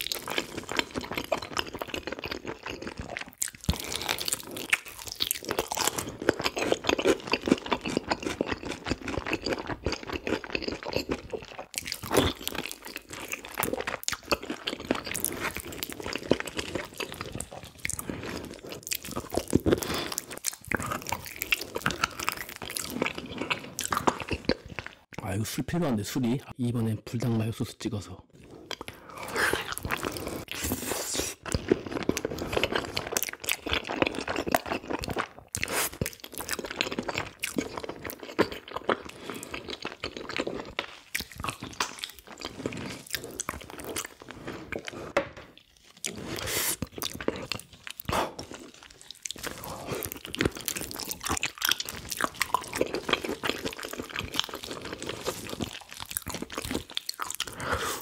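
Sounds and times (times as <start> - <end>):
crunchy chewing and biting: 0.0 - 25.1, 28.4 - 58.0.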